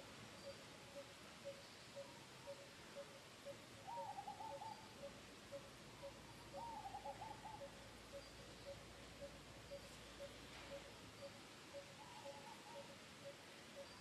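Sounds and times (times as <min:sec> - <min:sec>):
faint bird calls: 0:00.4 - 0:14.0.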